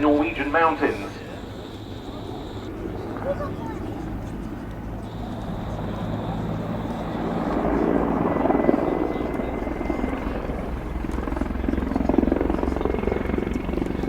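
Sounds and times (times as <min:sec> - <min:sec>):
helicopter rotor and engines: 0:00.0 - 0:14.0.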